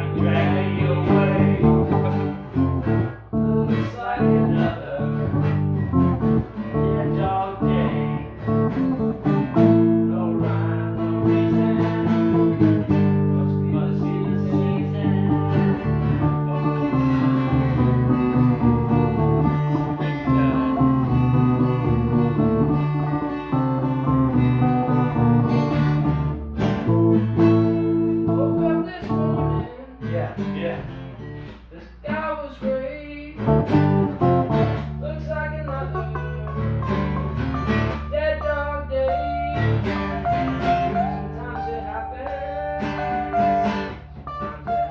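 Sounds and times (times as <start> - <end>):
electric guitar playing chords: 0.0 - 31.5, 33.4 - 44.9.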